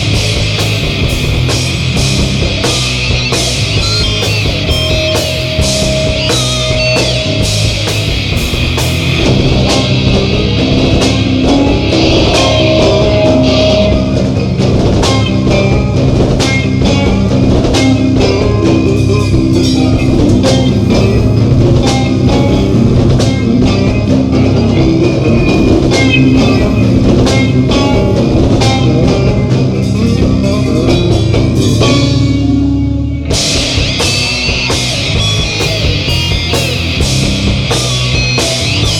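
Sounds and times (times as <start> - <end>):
drum kit and cymbals: 0.0 - 38.9
electric guitar: 0.0 - 38.9
rock band playing live: 0.0 - 38.9.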